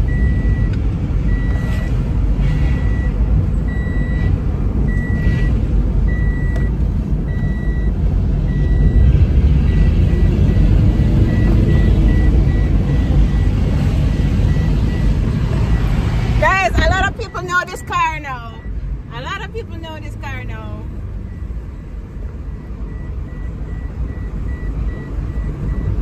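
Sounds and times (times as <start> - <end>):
dashboard warning chime beeping: 0.0 - 2.0, 2.8 - 26.0
engine and tyres rumbling: 0.0 - 26.0.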